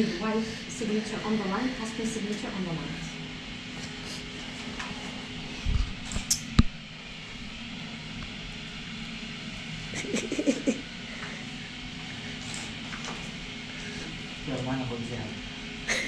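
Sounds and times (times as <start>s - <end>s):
low room hum: 0.0s - 16.0s
low wavering hum-like sound: 0.0s - 16.0s.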